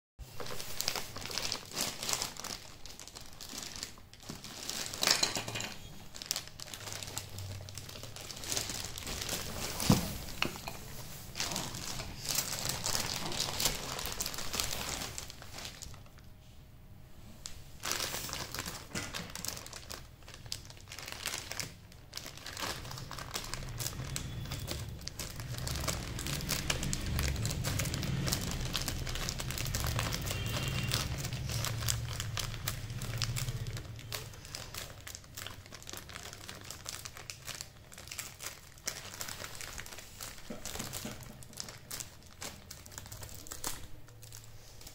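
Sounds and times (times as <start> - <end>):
plastic mailer bag crinkling: 0.2 - 16.3, 17.4 - 44.9.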